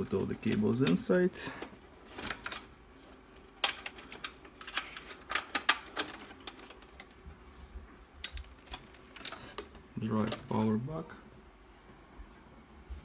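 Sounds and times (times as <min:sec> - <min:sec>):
cables clicking and rustling: 0:00.0 - 0:11.0.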